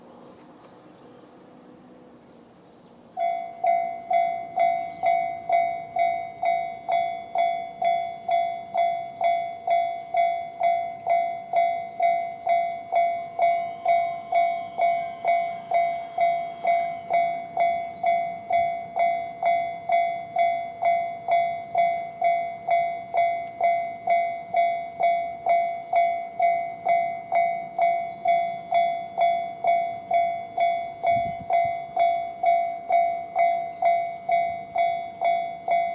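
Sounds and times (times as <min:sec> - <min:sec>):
level crossing warning bell: 0:03.1 - 0:35.9.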